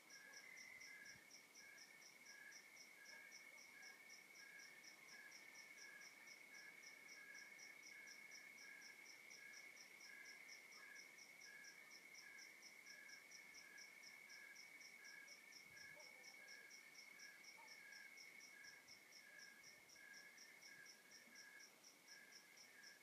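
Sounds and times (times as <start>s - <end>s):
continuous high insect trill: 0.0s - 23.0s
slow pulsing cricket chirp: 0.0s - 23.0s.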